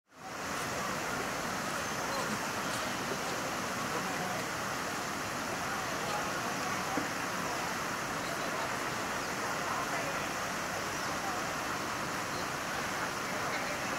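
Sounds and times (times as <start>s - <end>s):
faint people's voices: 0.1s - 13.9s
outdoor background noise: 0.1s - 13.9s.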